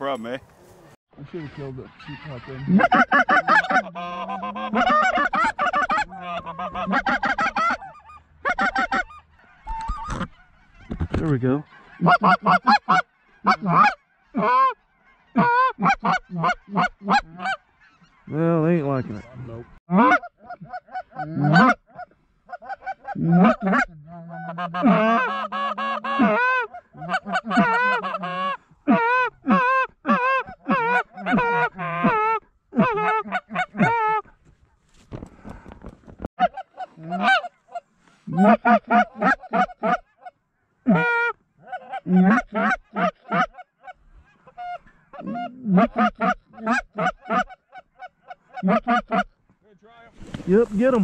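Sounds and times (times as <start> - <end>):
goose calls honking and clucking: 0.0 - 34.4, 36.4 - 49.4.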